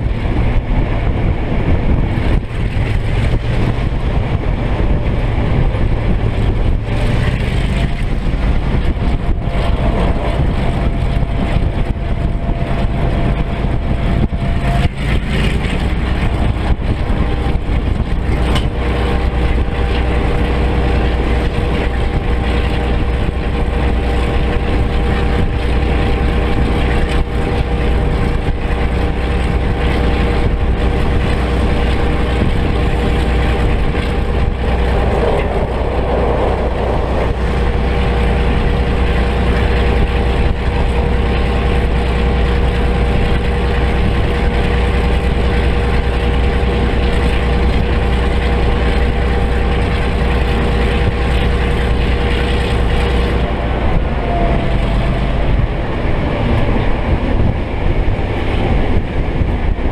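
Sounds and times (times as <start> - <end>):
locomotive diesel engine running: 0.0 - 59.9.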